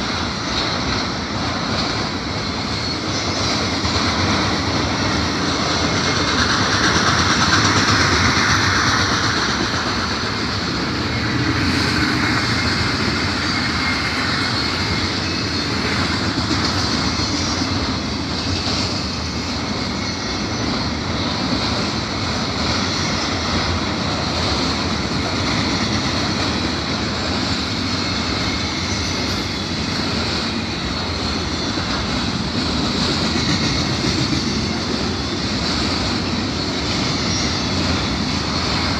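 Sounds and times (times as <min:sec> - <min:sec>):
freight train rumbling: 0:00.0 - 0:38.9
train wheels clattering over rail joints: 0:00.0 - 0:38.9.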